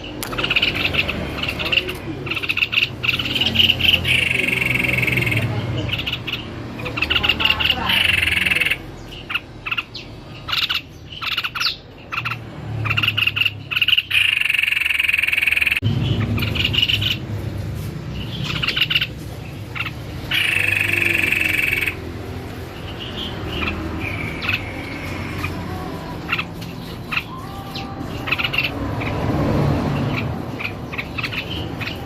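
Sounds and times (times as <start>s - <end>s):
bird chattering song: 0.0s - 32.0s.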